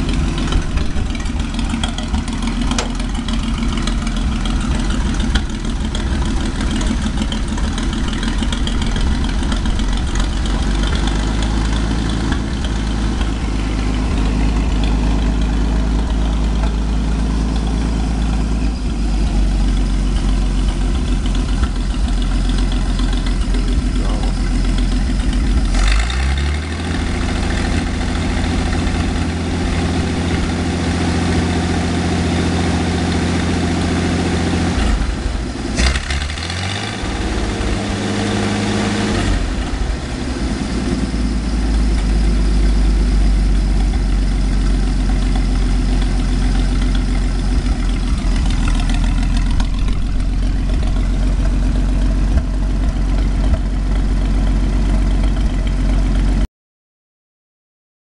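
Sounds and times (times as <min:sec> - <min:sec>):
gasoline engine idling and revving: 0:00.0 - 0:56.5.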